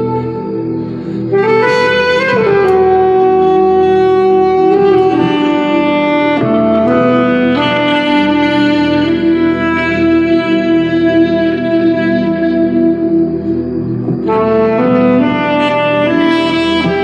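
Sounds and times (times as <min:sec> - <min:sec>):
alto saxophone slow melody: 0:00.0 - 0:17.0
soft sustained backing: 0:00.0 - 0:17.0.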